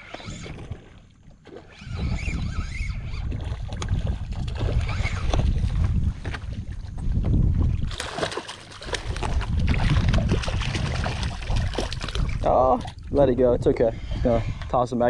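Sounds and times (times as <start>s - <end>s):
wind buffeting microphone: 1.7s - 15.0s.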